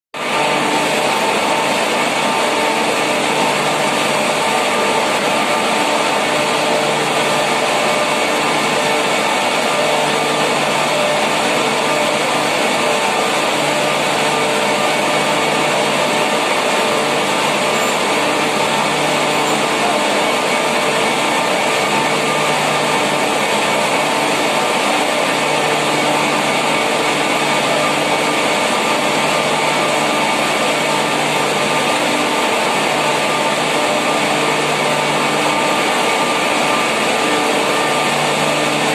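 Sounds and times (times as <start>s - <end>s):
machinery whirring: 0.2s - 38.9s.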